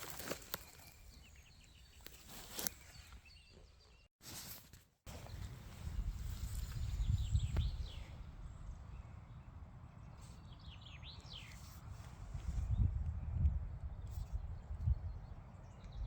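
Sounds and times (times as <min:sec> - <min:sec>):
small birds chirping: 0:00.0 - 0:04.1, 0:05.1 - 0:16.0.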